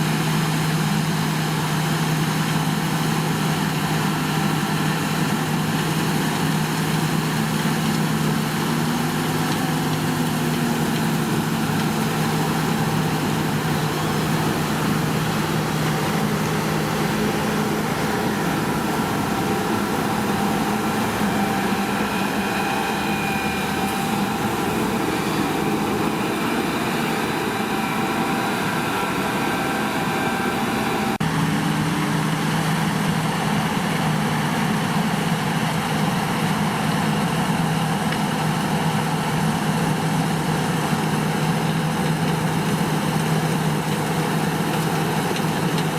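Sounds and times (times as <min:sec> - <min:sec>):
diesel engine running under load: 0:00.0 - 0:45.9.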